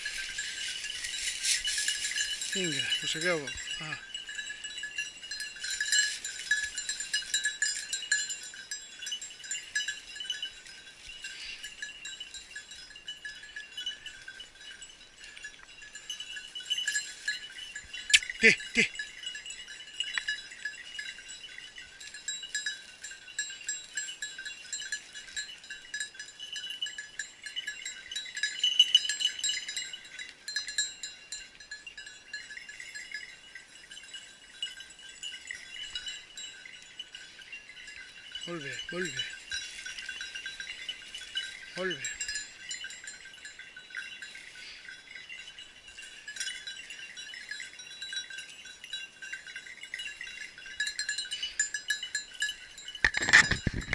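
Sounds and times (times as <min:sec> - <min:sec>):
dog collar bells jingling: 0:00.0 - 0:53.9.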